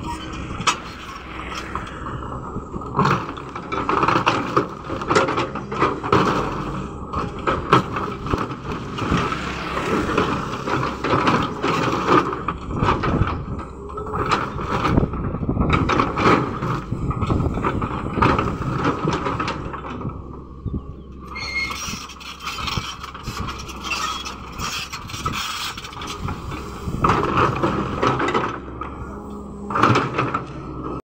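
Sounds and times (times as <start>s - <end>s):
diesel engine droning: 0.0s - 31.0s
excavator bucket scraping stone: 0.0s - 31.0s.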